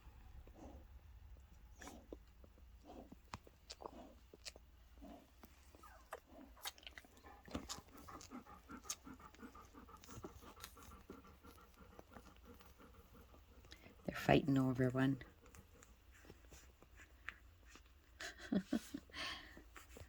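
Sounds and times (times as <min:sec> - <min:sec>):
puppies suckling and grunting: 0:00.0 - 0:20.0.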